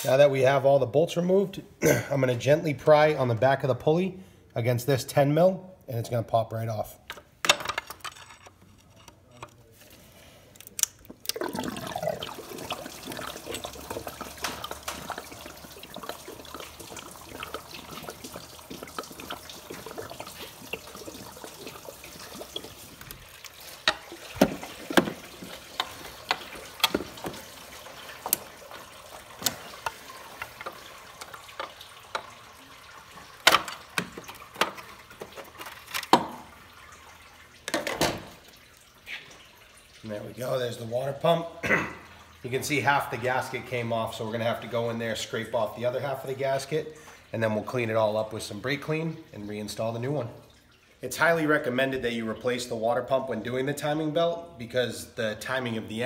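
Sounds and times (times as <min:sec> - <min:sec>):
coolant pouring and splashing: 0:09.8 - 0:56.0.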